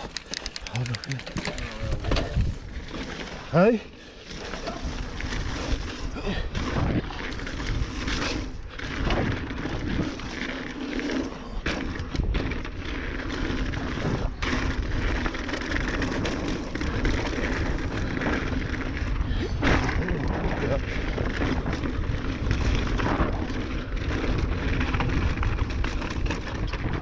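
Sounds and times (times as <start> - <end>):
bike knocking over rough ground: 0.0 - 3.5, 4.3 - 27.0
bike tyres rumbling on dirt: 0.0 - 27.0.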